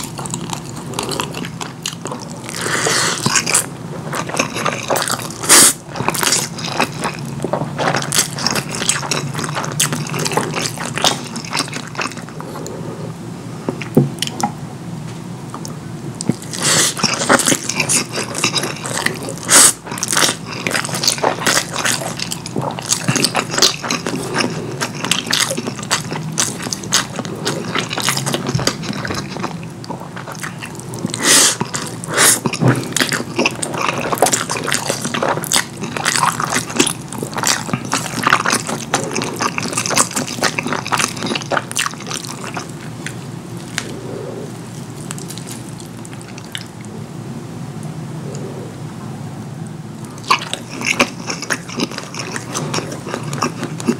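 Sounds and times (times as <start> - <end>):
wet chewing and mouth sounds: 0.0 - 13.1, 13.7 - 14.6, 15.5 - 47.0, 50.0 - 53.9.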